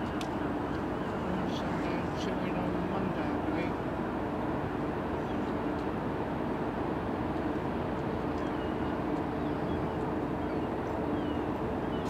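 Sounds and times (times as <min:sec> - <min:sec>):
ship machinery drone: 0:00.0 - 0:12.0.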